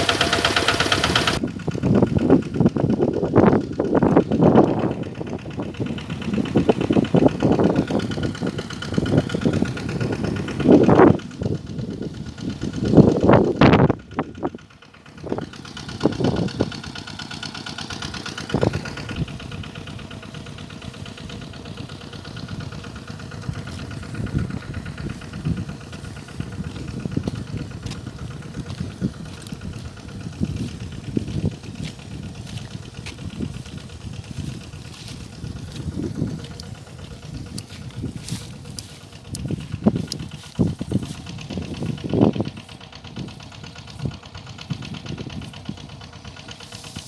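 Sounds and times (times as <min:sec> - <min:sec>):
small engine running: 0:00.0 - 0:47.0.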